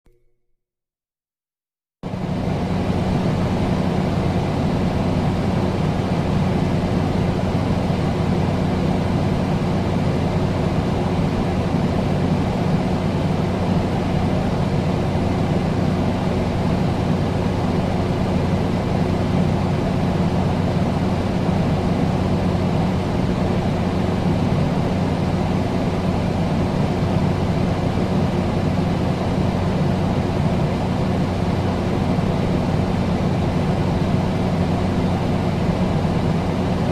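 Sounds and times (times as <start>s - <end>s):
air conditioner running: 2.0s - 36.9s.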